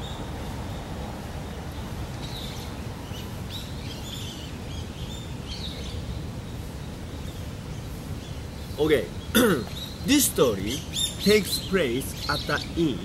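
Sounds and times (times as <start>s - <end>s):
low background hum: 0.0s - 13.0s
small birds chirping: 0.0s - 13.0s.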